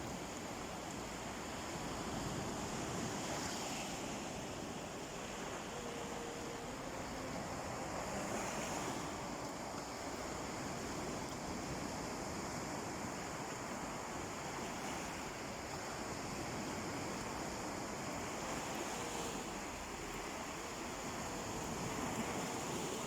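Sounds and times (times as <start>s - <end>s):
sea surf washing onto beach: 0.0s - 23.0s.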